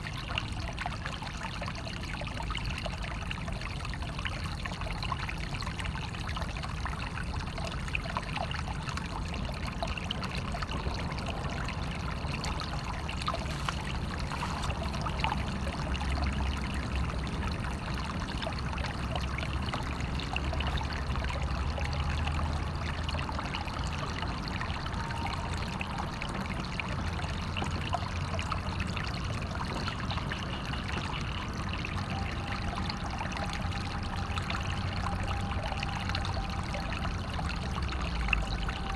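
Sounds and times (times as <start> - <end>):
running water trickling: 0.0 - 38.9
water splashes and gurgles: 0.0 - 38.9.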